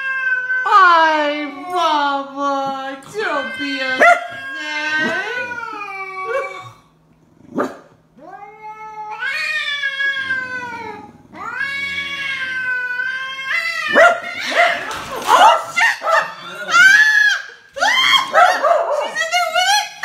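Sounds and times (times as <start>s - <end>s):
cat yowling: 0.0s - 0.8s, 3.2s - 6.8s, 8.2s - 20.0s.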